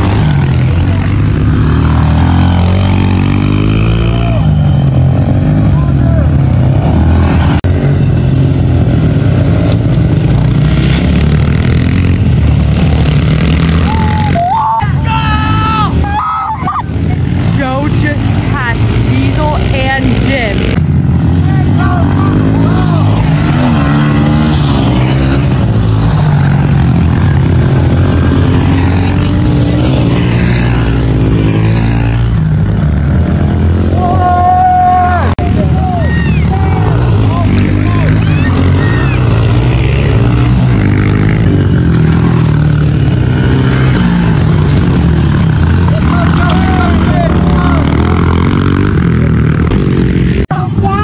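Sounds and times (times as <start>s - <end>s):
motorcycle engines droning: 0.0s - 51.0s.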